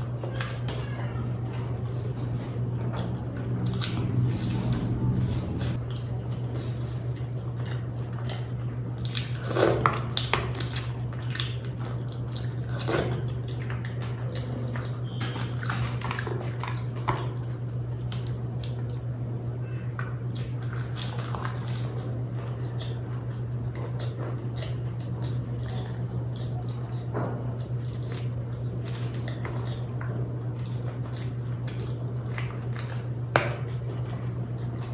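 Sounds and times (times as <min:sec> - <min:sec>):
steady low hum: 0:00.0 - 0:34.9
man chewing with lip smacks: 0:01.4 - 0:34.9.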